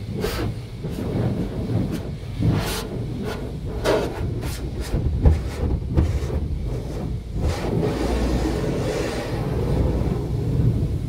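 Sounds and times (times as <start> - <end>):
car wash brushes slapping car: 0.0 - 11.0
low rumble of machinery: 0.0 - 11.0.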